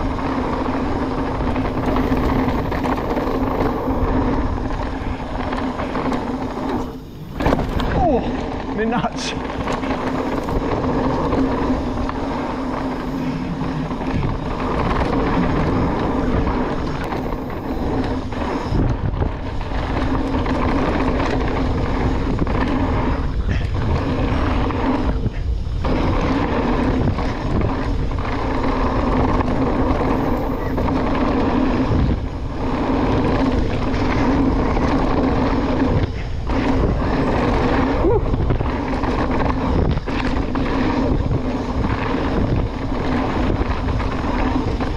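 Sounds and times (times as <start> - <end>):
steady buzz: 0.0 - 44.9
tyres on dirt trail: 0.0 - 44.9
wind noise: 0.0 - 44.9.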